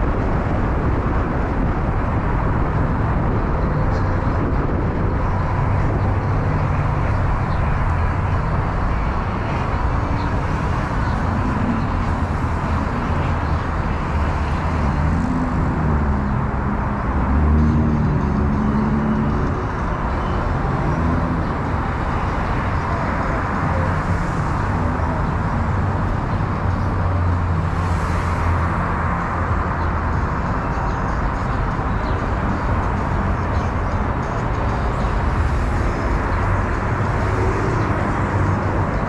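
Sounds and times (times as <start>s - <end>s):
passing vehicle engine: 0.0s - 39.0s
tyre and road rumble: 0.0s - 39.0s.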